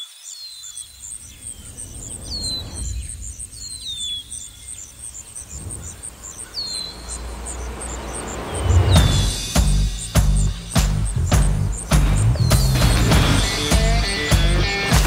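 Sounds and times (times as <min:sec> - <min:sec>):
insects chirping: 0:00.0 - 0:15.0
low rumble: 0:00.9 - 0:14.7.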